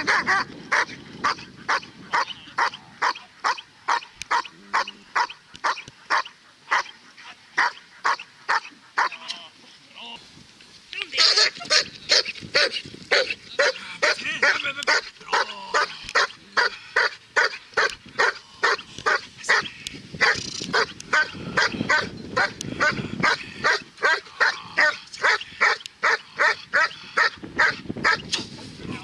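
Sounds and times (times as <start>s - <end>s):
dog barking rapidly: 0.0s - 7.0s, 7.6s - 9.2s, 11.2s - 28.3s.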